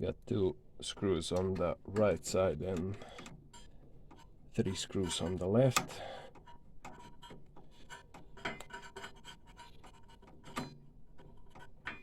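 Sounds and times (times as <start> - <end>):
faint scratching on printer parts: 2.3 - 12.0.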